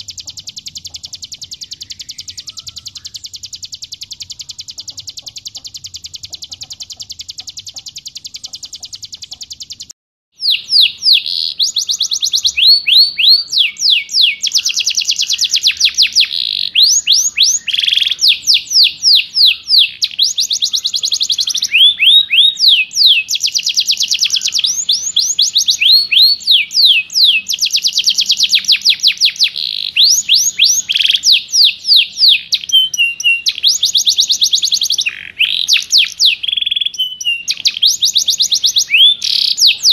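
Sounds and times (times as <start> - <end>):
songbird fast high trill: 0.0 - 39.9.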